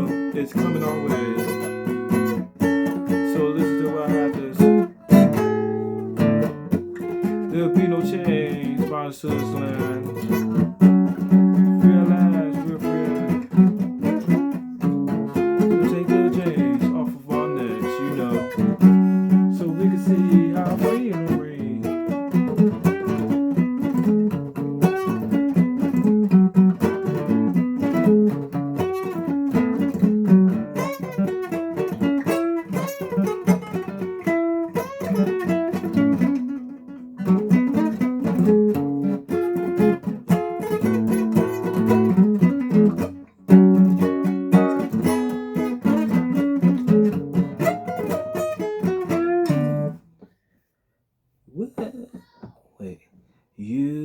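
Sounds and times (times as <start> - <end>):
guitar playing: 0.0 - 50.5.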